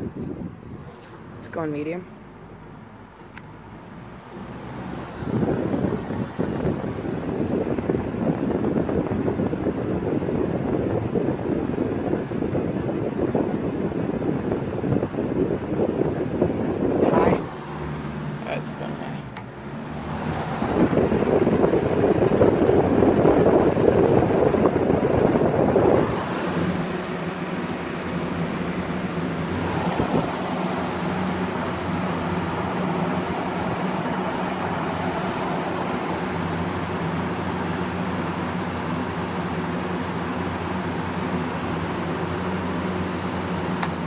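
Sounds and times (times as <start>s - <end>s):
electric fan motor hum: 0.0s - 44.0s
fan airflow buffeting microphone: 0.0s - 44.0s.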